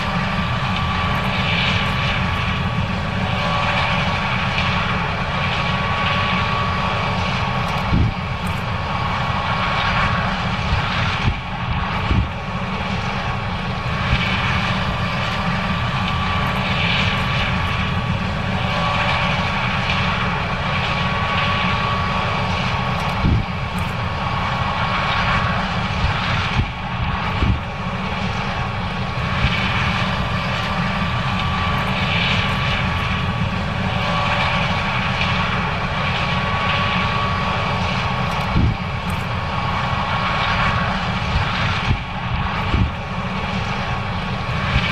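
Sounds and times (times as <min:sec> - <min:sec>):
combine harvester engine drone: 0:00.0 - 0:44.9
machinery whine: 0:00.0 - 0:44.9.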